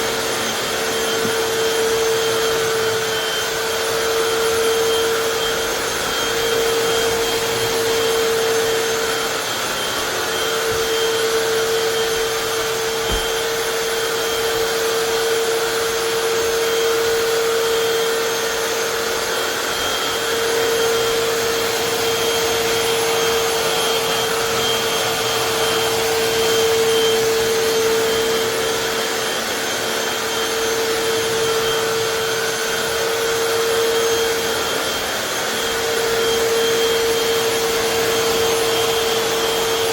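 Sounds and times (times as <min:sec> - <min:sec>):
floor cleaner motor hum: 0:00.0 - 0:39.9.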